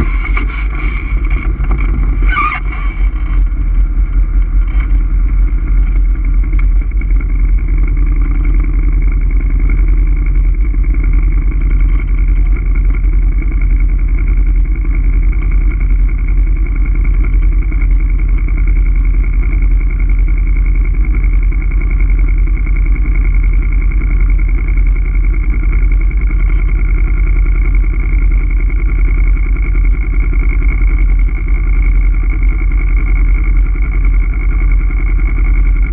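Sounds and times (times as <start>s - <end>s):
atv engine running: 0.0s - 35.9s.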